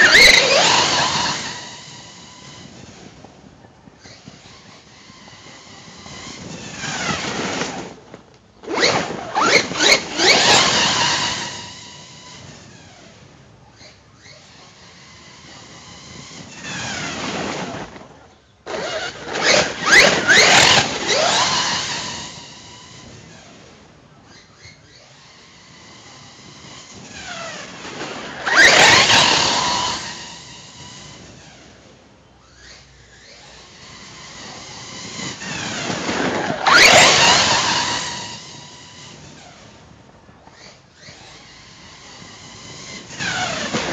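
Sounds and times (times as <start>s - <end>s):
electric motor whining: 0.0s - 3.3s, 3.9s - 23.7s, 24.3s - 43.9s.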